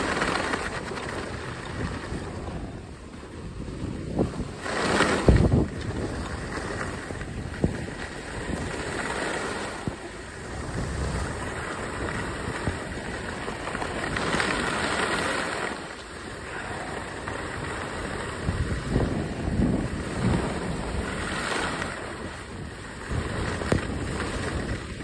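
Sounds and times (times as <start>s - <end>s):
skis sliding over snow: 0.0s - 25.0s
wind rushing on microphone: 0.0s - 25.0s.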